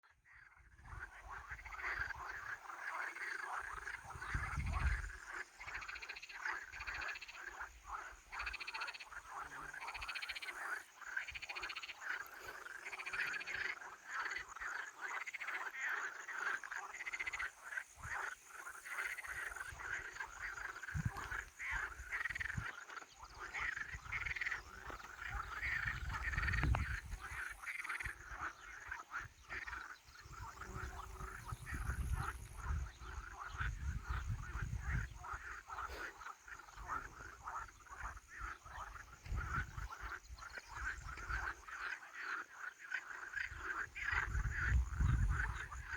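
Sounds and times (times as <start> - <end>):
frogs calling: 0.0 - 45.9.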